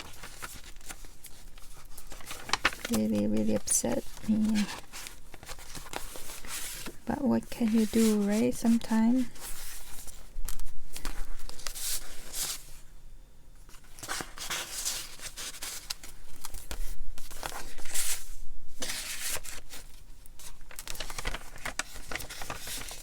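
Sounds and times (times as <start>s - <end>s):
paper rustling and crinkling: 0.0s - 12.8s, 13.6s - 23.0s.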